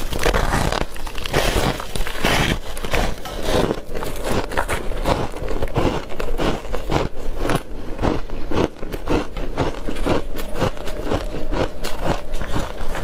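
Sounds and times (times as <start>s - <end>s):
chewing crunchy ice: 0.0s - 13.0s.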